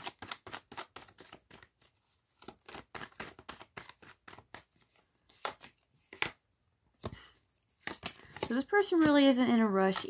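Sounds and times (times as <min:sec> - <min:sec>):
cards being shuffled: 0:00.0 - 0:06.4, 0:07.0 - 0:10.0.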